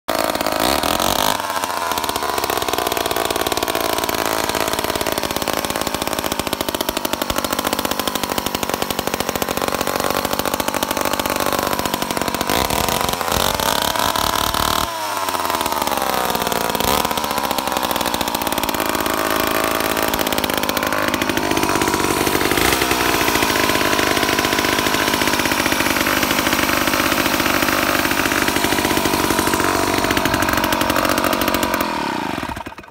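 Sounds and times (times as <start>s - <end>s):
chainsaw revving: 0.0s - 32.9s.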